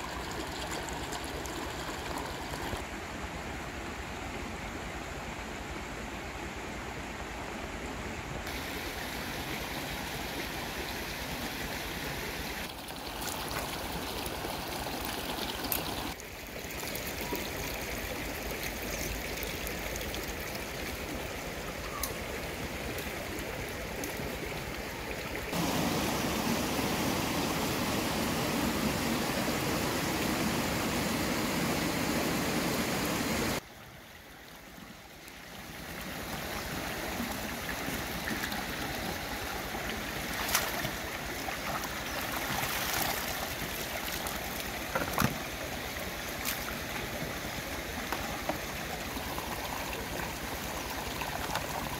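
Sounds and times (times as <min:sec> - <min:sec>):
stream flowing over rocks: 0:00.0 - 0:02.9, 0:08.5 - 0:51.9.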